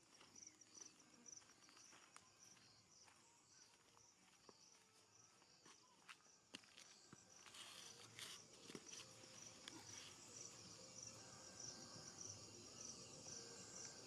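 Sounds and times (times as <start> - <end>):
faint crickets chirping: 0.0 - 14.0.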